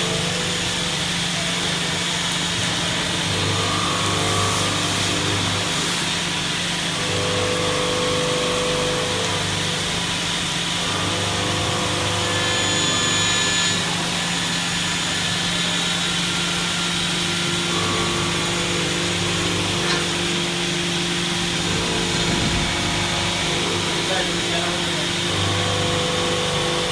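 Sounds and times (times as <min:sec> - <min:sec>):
milling machine humming: 0:00.0 - 0:26.9.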